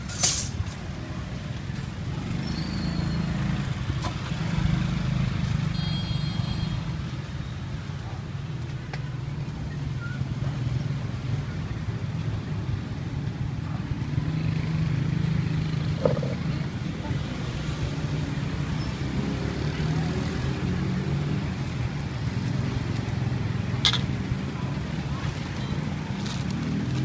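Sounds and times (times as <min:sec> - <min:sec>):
traffic engine hum: 0:00.0 - 0:27.0.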